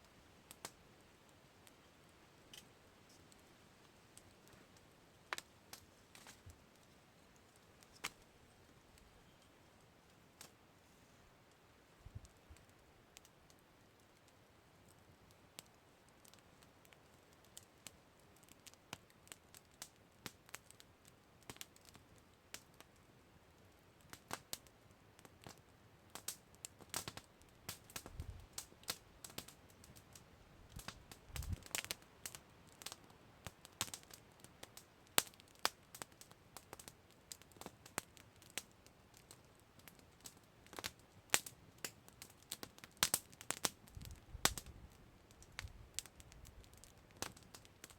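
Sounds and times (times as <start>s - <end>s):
campfire crackling and popping: 0.0s - 10.6s, 11.4s - 47.9s.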